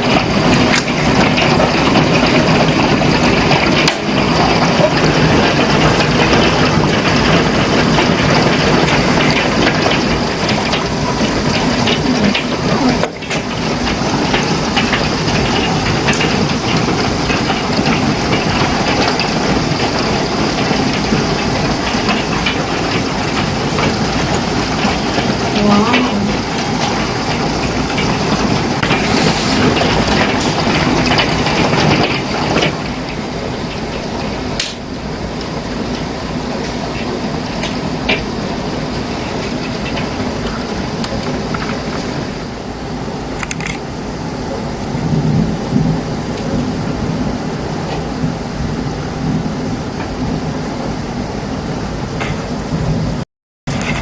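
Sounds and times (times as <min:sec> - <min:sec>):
hail clattering: 0:00.0 - 0:54.0
heavy rain: 0:00.0 - 0:54.0.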